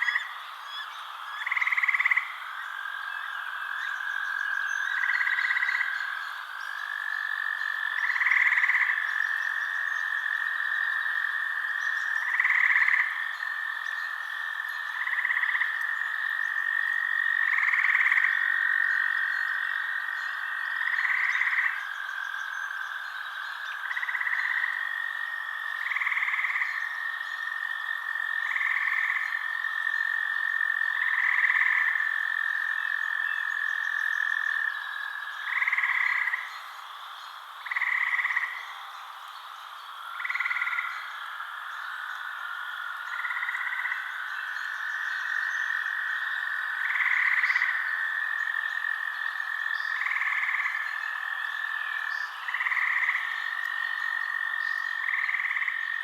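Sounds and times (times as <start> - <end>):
frog calls: 0.0 - 56.0.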